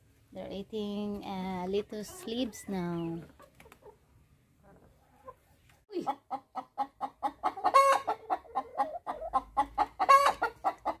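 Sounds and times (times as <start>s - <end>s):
hens clucking: 1.1s - 11.0s.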